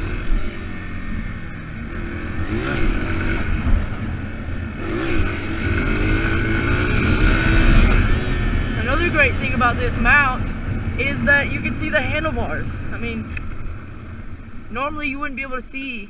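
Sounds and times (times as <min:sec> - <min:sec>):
wind rumble: 0:00.0 - 0:14.9
muffled dirt bike engine: 0:00.0 - 0:16.0.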